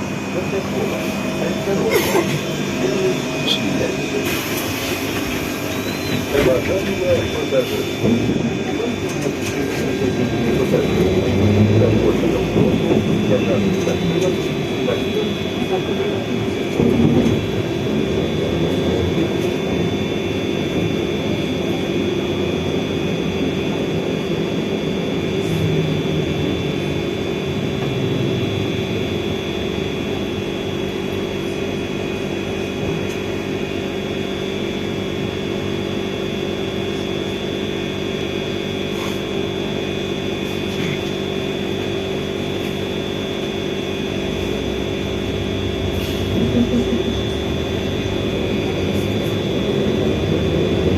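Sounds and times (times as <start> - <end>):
electrical drive whine: 0.0 - 50.9.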